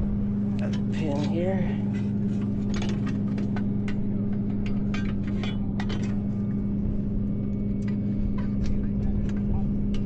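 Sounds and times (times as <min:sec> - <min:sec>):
truck engine humming: 0:00.0 - 0:10.0.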